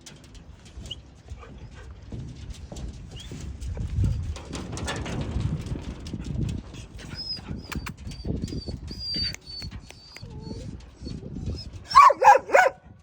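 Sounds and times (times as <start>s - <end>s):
steady low rustling: 0.0s - 13.0s.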